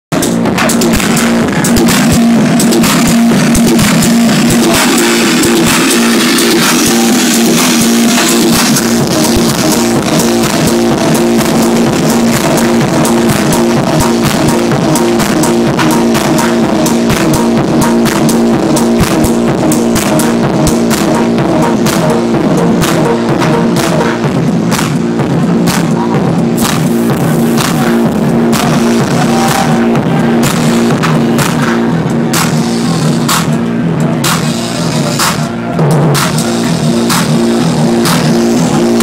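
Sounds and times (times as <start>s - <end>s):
minimal techno over sound system: 0.0s - 39.0s
pulsing synth line: 0.3s - 34.2s.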